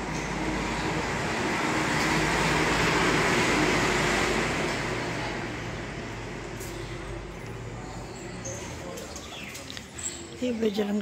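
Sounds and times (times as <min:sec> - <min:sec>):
road vehicle passing by: 0:00.0 - 0:11.0.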